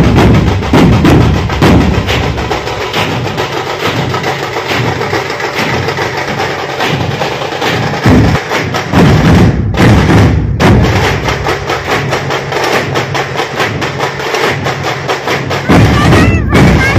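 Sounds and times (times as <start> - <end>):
group of drums beating fast: 0.0 - 16.9.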